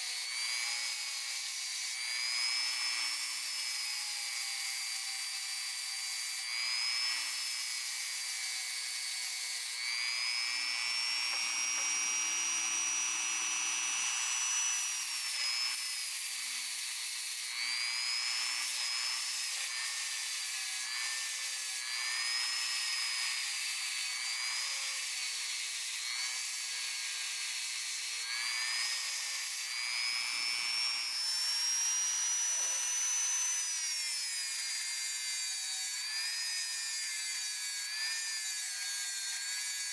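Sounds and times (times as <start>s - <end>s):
rotary tool whining: 0.0s - 35.9s.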